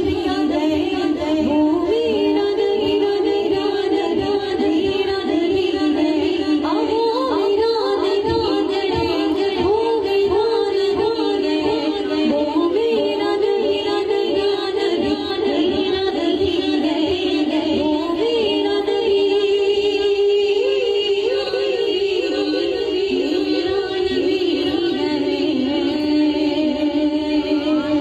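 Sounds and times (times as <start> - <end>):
woman singing devotional song: 0.0 - 28.0.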